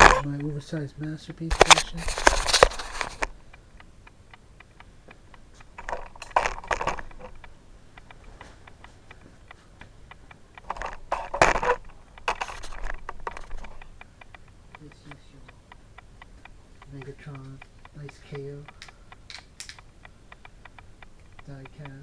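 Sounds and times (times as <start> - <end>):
faint ticks: 0.0 - 22.0
light clattering and rattling: 0.0 - 22.0.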